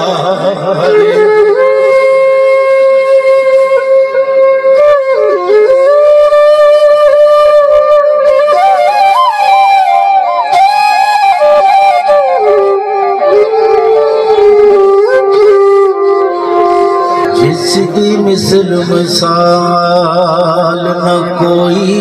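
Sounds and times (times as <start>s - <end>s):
side-blown flute melody: 0.7s - 19.5s.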